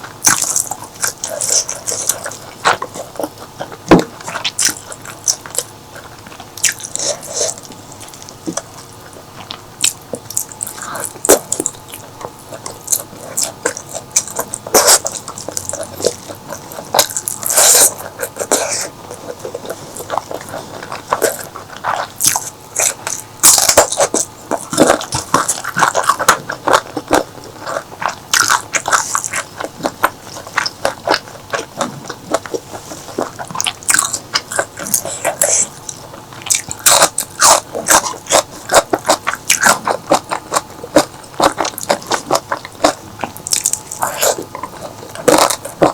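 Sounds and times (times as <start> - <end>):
wet chewing: 0.0 - 45.9.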